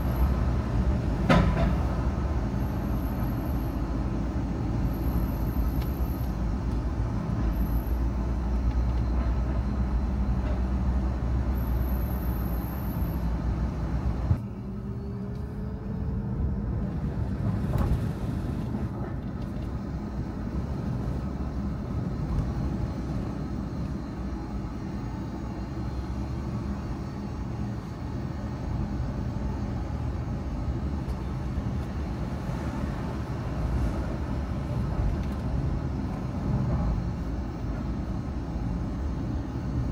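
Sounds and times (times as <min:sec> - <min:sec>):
car engine and road rumble: 0:00.0 - 0:39.9
faint rising whine: 0:02.1 - 0:18.8, 0:19.7 - 0:39.9.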